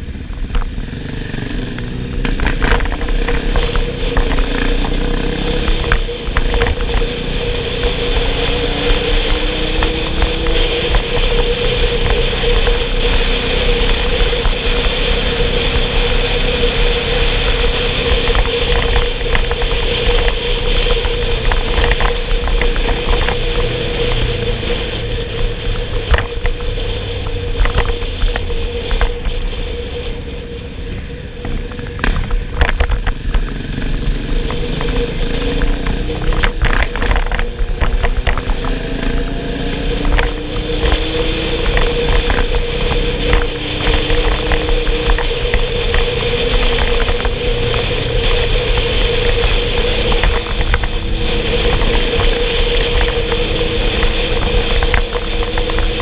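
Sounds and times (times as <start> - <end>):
motorcycle engine running: 0.0 - 56.0
wind rushing on microphone: 0.0 - 56.0.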